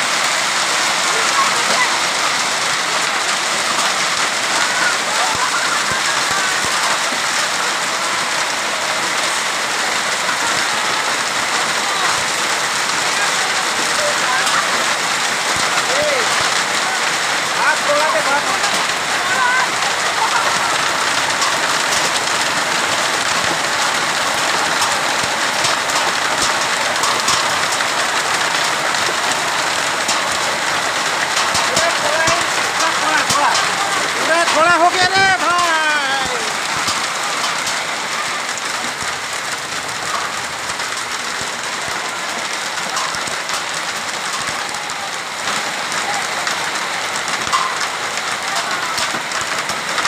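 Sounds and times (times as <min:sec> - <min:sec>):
heavy rain and hail on pavement: 0:00.0 - 0:50.0.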